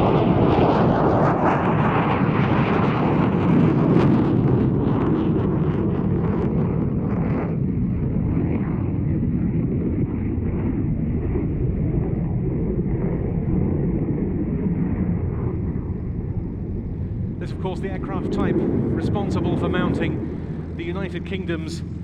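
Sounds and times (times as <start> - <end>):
jet engine deep rumble: 0.0 - 22.0.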